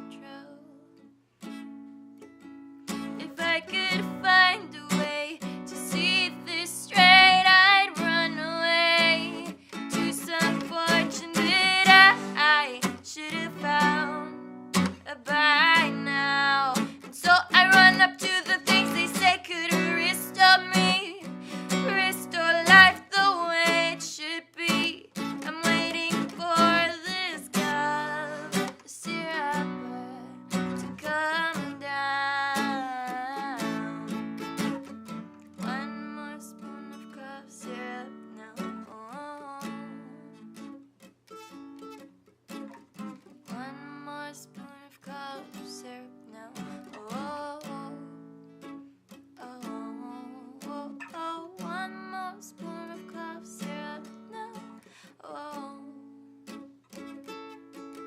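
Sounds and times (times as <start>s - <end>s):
acoustic guitar strumming: 1.4s - 45.9s, 55.8s - 58.0s.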